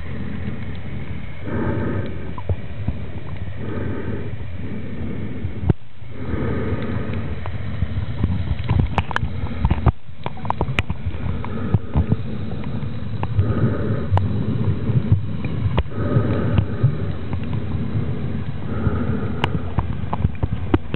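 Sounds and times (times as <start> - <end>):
muffled underwater rush: 0.0 - 20.9
sharp underwater clicks: 0.0 - 20.9.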